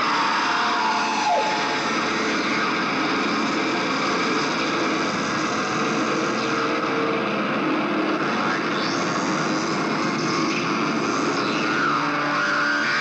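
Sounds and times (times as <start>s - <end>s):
rising feedback squeal: 0.0s - 13.0s.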